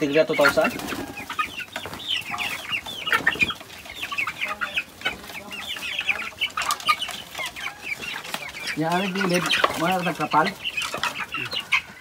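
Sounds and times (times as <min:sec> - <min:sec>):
young chickens chirping and clucking: 0:00.0 - 0:12.0.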